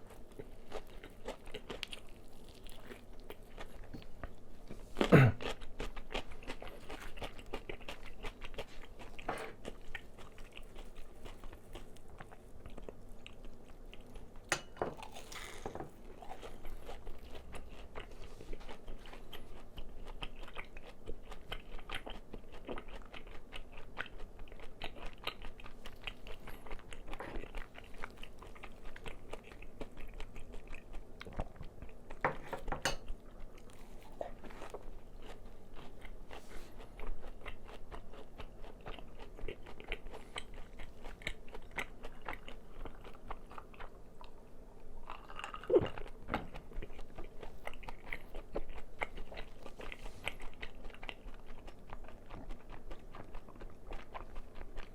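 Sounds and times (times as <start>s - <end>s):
chewing crispy fried chicken: 0.0s - 32.3s, 32.9s - 54.9s.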